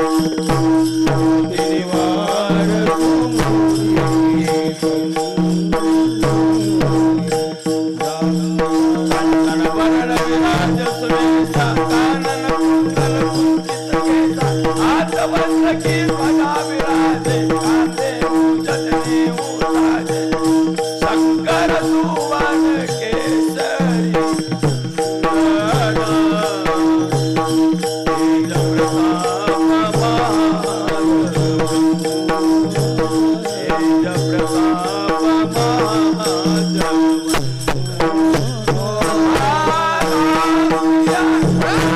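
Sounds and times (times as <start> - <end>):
hand percussion: 0.0 - 41.9.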